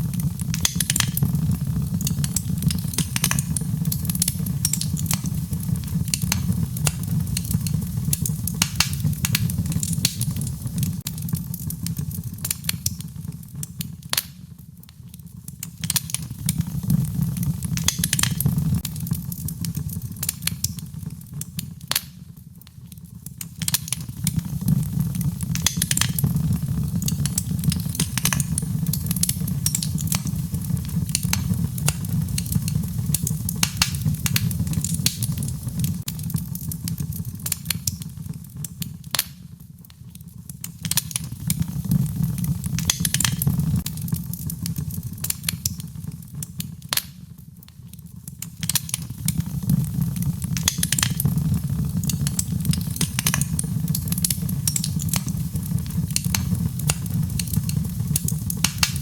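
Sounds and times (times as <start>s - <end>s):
flames rumbling: 0.0s - 47.2s, 48.0s - 59.0s
wood fire crackling and popping: 0.0s - 59.0s.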